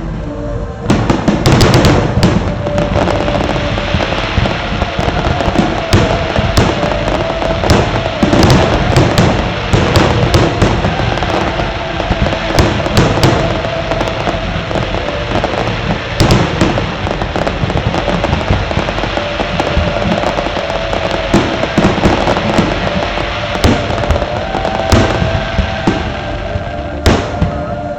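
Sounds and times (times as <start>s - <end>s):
dense rumble: 0.0s - 27.9s
fireworks bangs and crackling: 0.0s - 27.9s.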